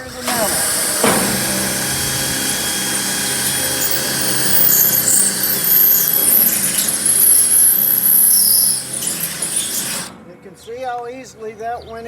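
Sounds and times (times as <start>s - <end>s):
cordless drill boring through metal: 0.0s - 10.3s.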